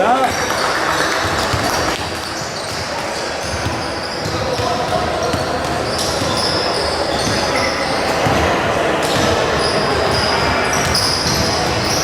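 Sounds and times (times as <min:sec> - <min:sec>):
crowd murmur: 0:00.0 - 0:12.0
shoes squeaking on court: 0:00.2 - 0:12.0
basketball bouncing: 0:01.1 - 0:12.0.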